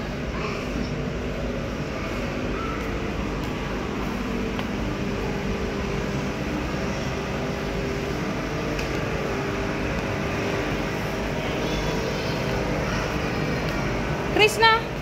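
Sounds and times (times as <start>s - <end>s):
store hum and hiss: 0.0s - 15.0s.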